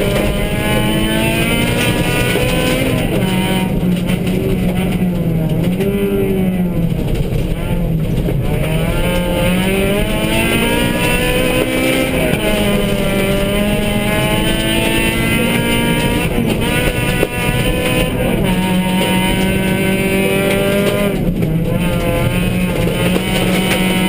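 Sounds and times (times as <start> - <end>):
rally car engine revving: 0.0 - 24.0
road noise: 0.0 - 24.0.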